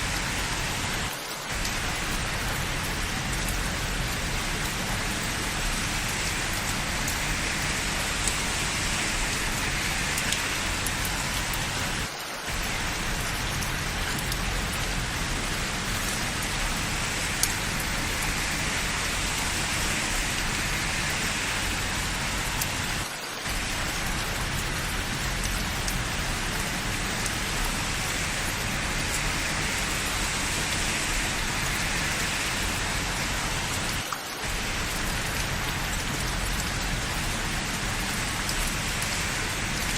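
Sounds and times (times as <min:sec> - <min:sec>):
raindrops ticking: 0:00.0 - 0:39.9
steady rain hissing: 0:00.0 - 0:39.9.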